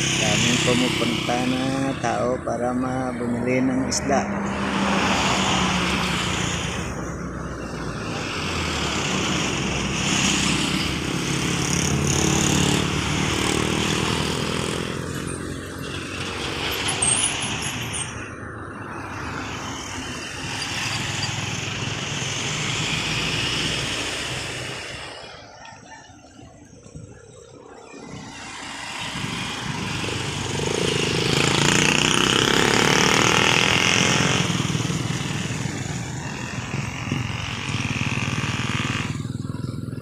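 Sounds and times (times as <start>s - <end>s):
road traffic engines: 0.0s - 40.0s.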